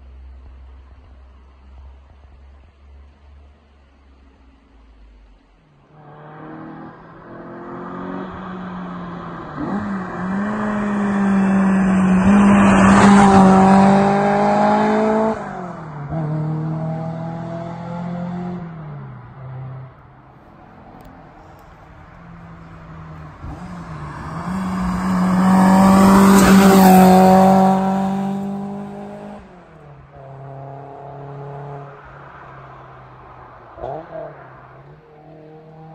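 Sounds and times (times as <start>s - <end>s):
car exhaust driving past: 0.5s - 35.9s.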